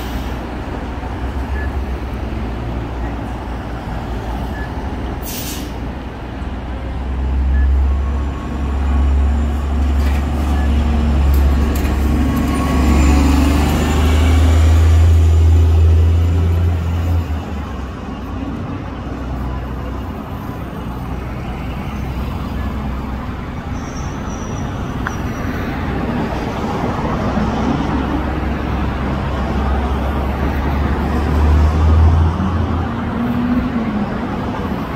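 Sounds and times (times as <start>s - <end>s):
bus engine rumbling: 0.0s - 34.9s
city traffic: 0.0s - 34.9s
vehicle rumble: 0.0s - 34.9s.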